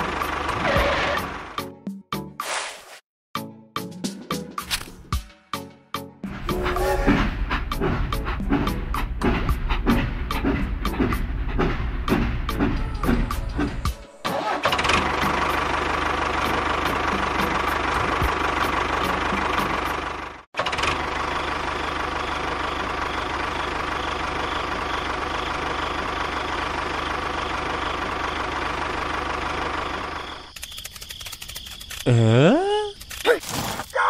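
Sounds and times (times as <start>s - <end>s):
tractor engine idling: 0.0s - 1.6s, 6.3s - 32.0s.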